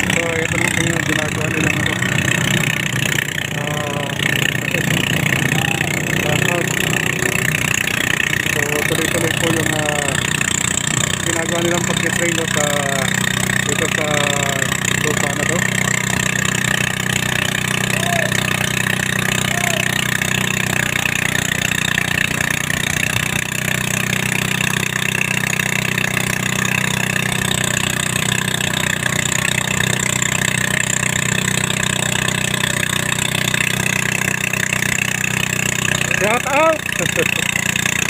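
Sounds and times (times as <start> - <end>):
heavy machinery engine running: 0.0 - 38.0.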